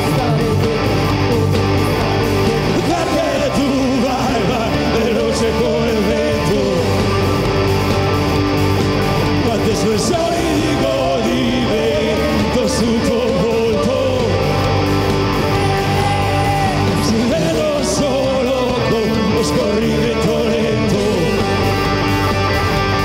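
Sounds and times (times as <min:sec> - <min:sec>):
person singing: 0:00.0 - 0:07.5, 0:09.3 - 0:22.0
rock band playing: 0:00.0 - 0:23.0.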